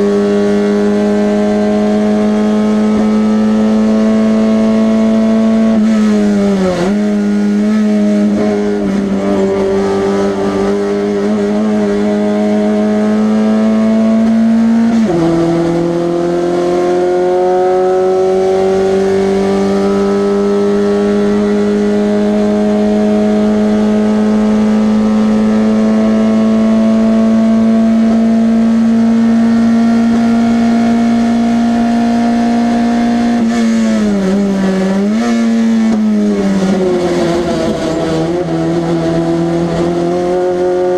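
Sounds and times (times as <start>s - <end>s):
race car engine at high revs: 0.0s - 40.9s.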